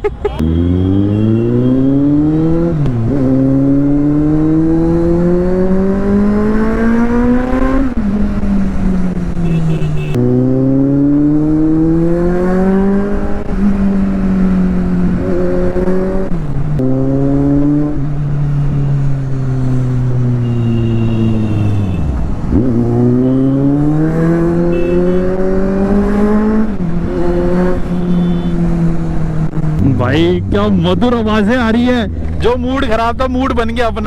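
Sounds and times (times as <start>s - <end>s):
motorcycle engine accelerating: 0.4s - 34.0s.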